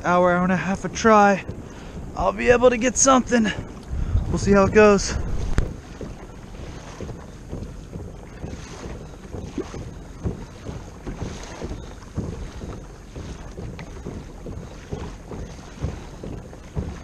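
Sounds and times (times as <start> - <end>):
water washing against hull: 0.0 - 17.0
wind buffeting microphone: 0.0 - 17.0.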